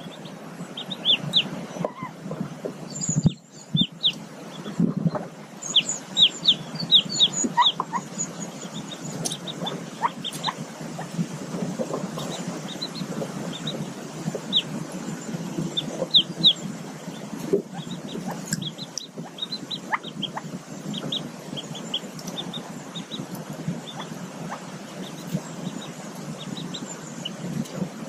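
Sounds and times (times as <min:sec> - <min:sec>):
ducklings peeping: 0:00.0 - 0:28.0.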